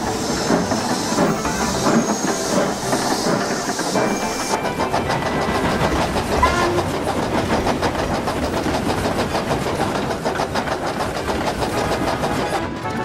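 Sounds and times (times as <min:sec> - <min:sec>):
train wheels clattering on rail joints: 0:00.0 - 0:13.0.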